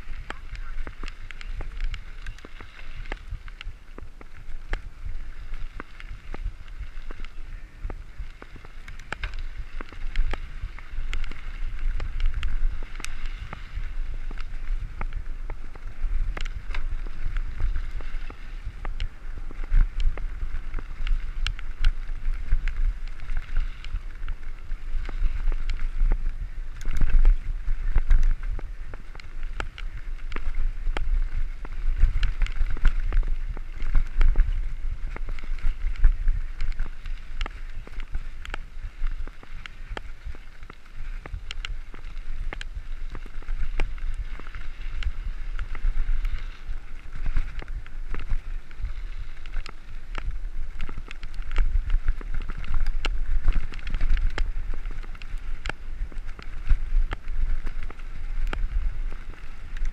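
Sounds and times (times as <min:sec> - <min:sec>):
bike clicks and rattles: 0:00.0 - 0:59.9
tyre noise on gravel: 0:00.0 - 0:59.9
wind buffeting microphone: 0:00.0 - 0:59.9.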